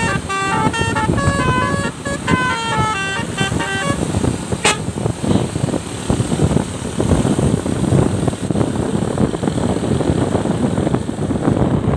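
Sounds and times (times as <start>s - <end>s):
low vehicle rumble: 0.0s - 11.9s
wind buffeting microphone: 0.0s - 11.9s.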